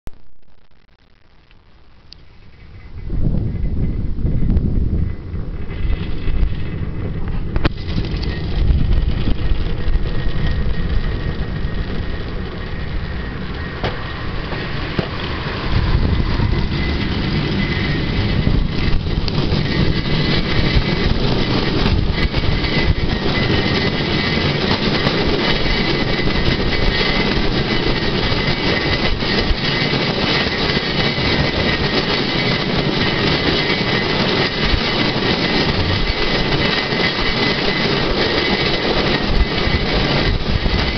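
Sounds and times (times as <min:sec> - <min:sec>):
steel wheels rumbling on rail track: 0:02.3 - 0:40.9.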